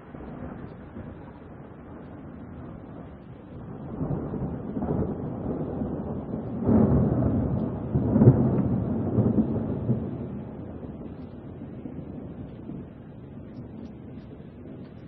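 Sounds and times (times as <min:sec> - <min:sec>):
rain: 0:00.0 - 0:15.0
rolling thunder: 0:00.0 - 0:15.0.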